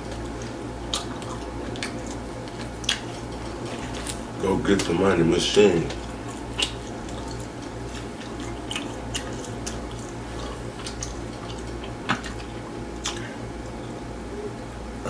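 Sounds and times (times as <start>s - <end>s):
person chewing: 0.0s - 5.0s, 5.8s - 14.0s.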